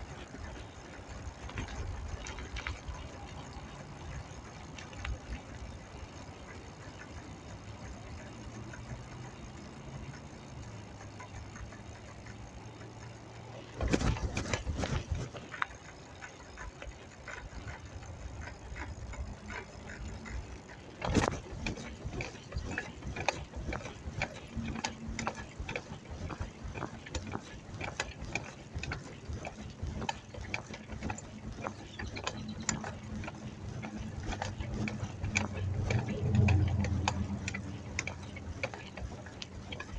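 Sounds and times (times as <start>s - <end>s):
bicycle freewheel ticking: 0.0s - 39.9s.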